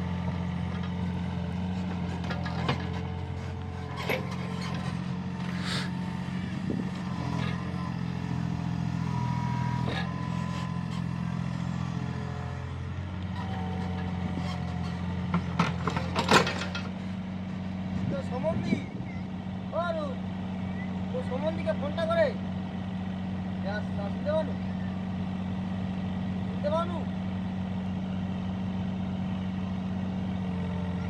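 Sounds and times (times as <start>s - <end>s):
mini excavator engine running: 0.0s - 31.0s.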